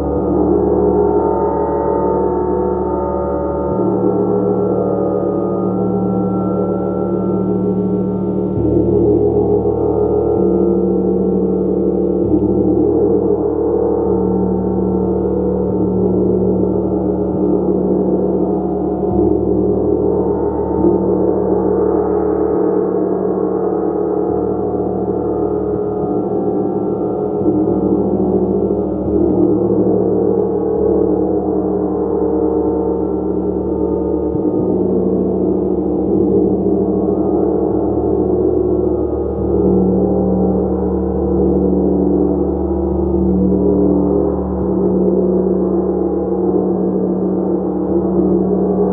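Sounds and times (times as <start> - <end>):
shimmering gong: 0.0 - 48.9.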